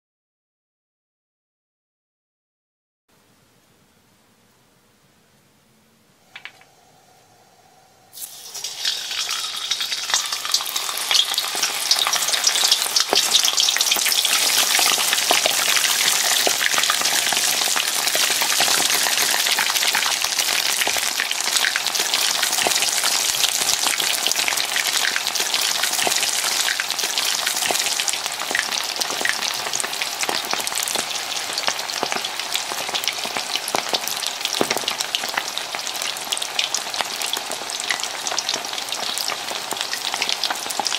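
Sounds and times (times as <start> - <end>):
chicken wings sizzling in oil: 8.1 - 40.9.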